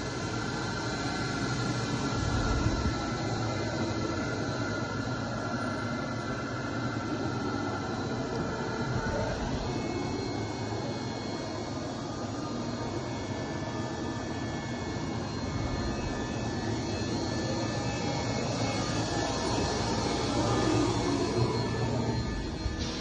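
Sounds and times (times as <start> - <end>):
machinery hiss and hum: 0.0 - 23.0
thin high whine: 0.0 - 23.0.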